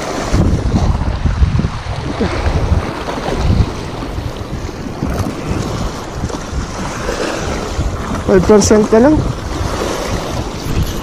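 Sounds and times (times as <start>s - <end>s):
waves breaking against rocks: 0.0s - 11.0s
wind buffeting microphone: 0.0s - 11.0s.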